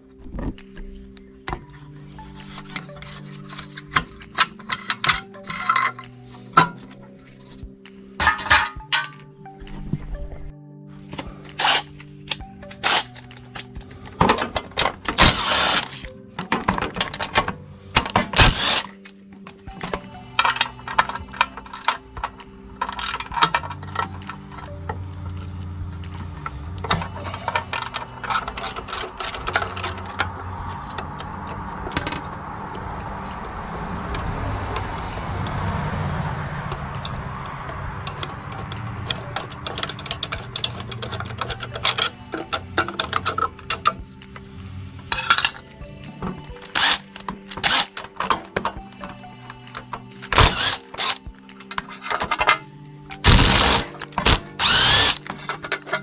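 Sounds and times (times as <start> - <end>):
hand tools clicking: 0.0 - 10.5, 11.2 - 56.0
background music: 0.0 - 56.0.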